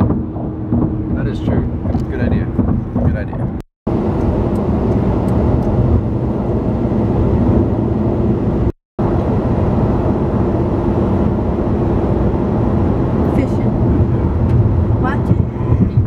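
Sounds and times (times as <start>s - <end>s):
car road and engine drone: 0.0s - 16.0s.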